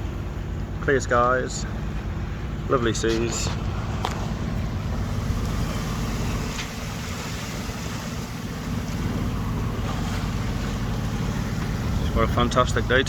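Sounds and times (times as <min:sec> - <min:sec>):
boat engine running: 0:00.0 - 0:13.0
wind and water rushing: 0:00.0 - 0:13.0.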